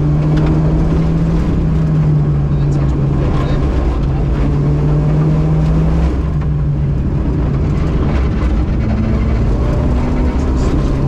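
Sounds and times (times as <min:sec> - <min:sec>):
rally car engine running: 0:00.0 - 0:11.0.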